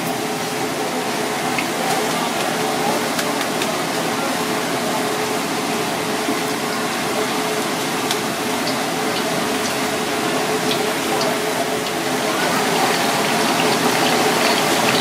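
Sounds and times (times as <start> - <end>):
hot oil sizzling in a wok: 0.0 - 15.0.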